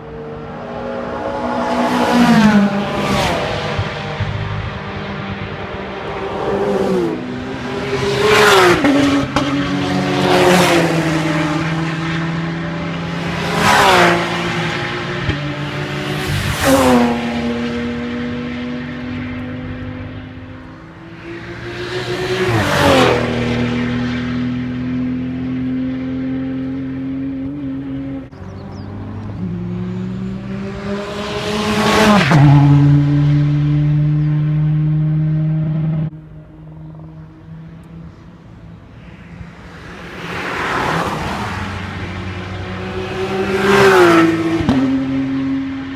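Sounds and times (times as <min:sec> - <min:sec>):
car engines running: 0:00.0 - 0:45.9
racing cars passing at speed: 0:00.0 - 0:45.9.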